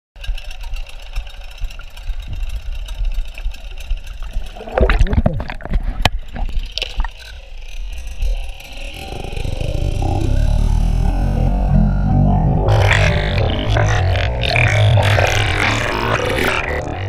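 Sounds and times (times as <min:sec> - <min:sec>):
outboard motor rumble underwater: 0:00.2 - 0:17.0
underwater bubbling and gurgling: 0:00.2 - 0:17.0.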